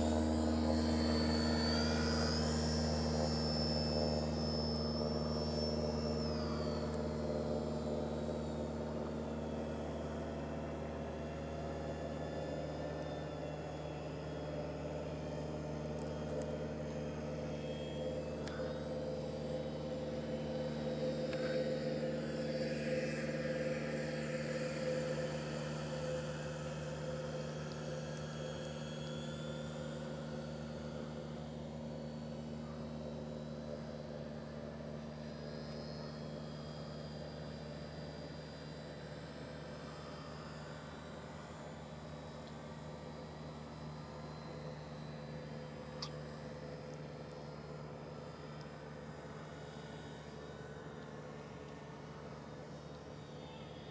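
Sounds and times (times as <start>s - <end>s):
model airplane motor whining: 0.0s - 49.4s
steady low hum: 0.0s - 53.9s.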